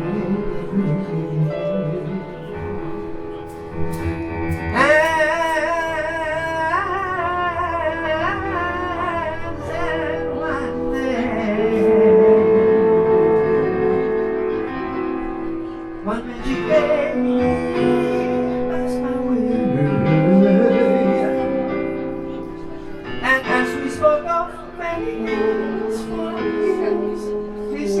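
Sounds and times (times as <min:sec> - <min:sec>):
jazz trio playing: 0:00.0 - 0:28.0
wavering lead melody: 0:00.0 - 0:28.0.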